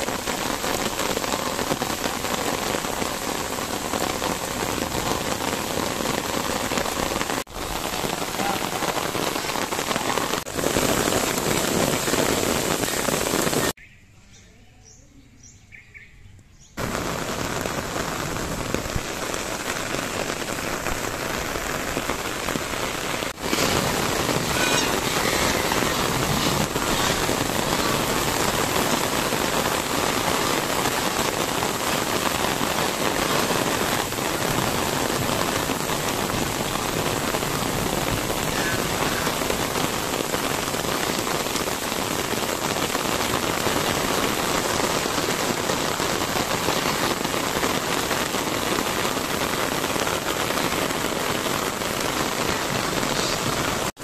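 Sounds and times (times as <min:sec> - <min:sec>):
rain falling: 0:00.0 - 0:13.8, 0:16.8 - 0:54.0.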